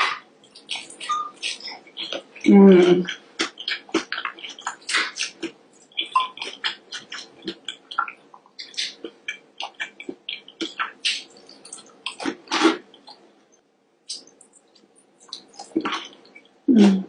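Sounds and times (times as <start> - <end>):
wet chewing and crunching: 0.0 - 2.4, 3.0 - 13.2, 14.1 - 16.5.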